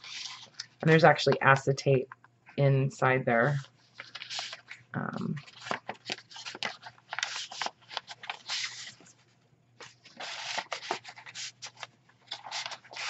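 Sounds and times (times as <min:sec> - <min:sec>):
paper pages rustling and flicking: 0:00.0 - 0:01.6, 0:03.5 - 0:13.0.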